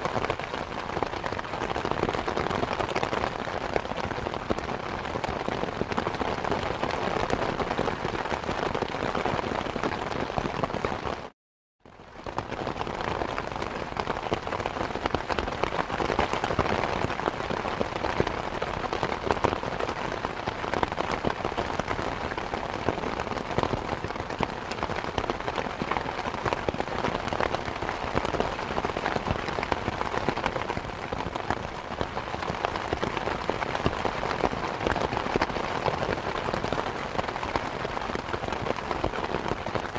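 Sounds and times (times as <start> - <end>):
rain pattering: 0.0 - 11.3, 11.9 - 39.9.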